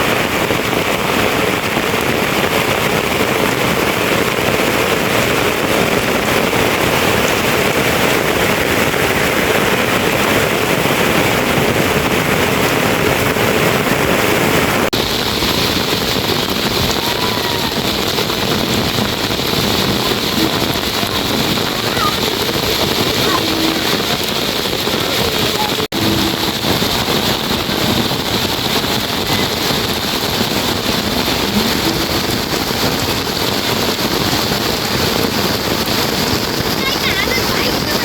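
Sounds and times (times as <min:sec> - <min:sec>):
loud rushing noise: 0:00.0 - 0:38.0.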